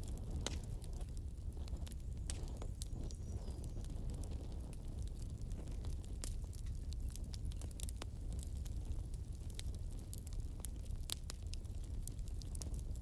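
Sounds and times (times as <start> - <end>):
bonfire crackling and popping: 0.0 - 13.0
low fire rumble: 0.0 - 13.0.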